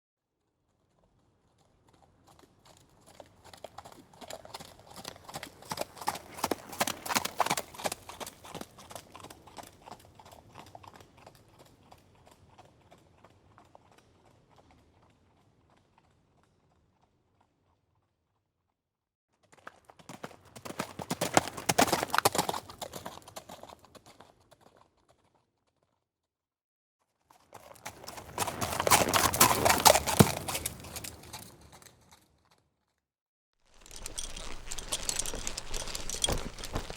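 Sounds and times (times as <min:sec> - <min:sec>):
horse hooves clip-clopping: 0:01.0 - 0:17.5, 0:19.5 - 0:25.5, 0:27.6 - 0:32.6, 0:33.7 - 0:36.9.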